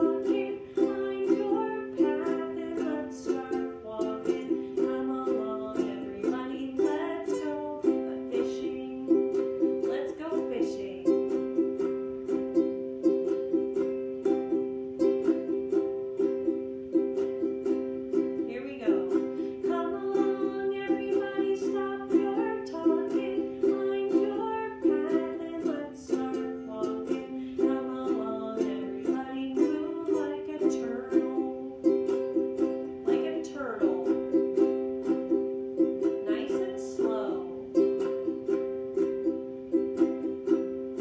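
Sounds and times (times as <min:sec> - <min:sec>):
person singing: 0:00.0 - 0:41.0
ukulele strumming: 0:00.0 - 0:41.0.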